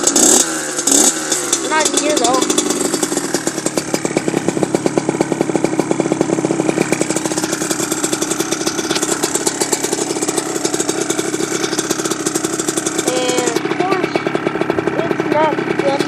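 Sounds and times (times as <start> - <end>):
dirt bike engine idling: 0.0 - 16.0.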